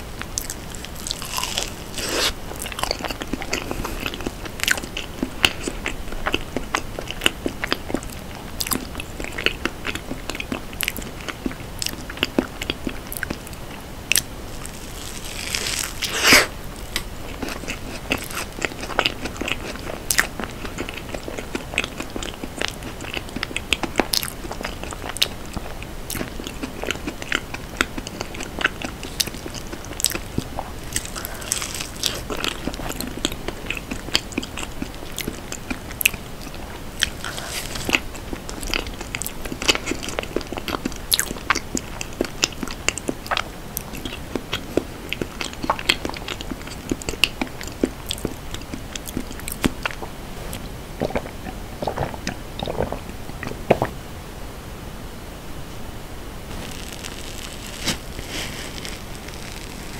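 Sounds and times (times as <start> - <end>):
chewing with mouth clicks: 0.2 - 53.9
biting into soft cake: 0.3 - 8.0, 8.6 - 53.9, 56.5 - 59.9.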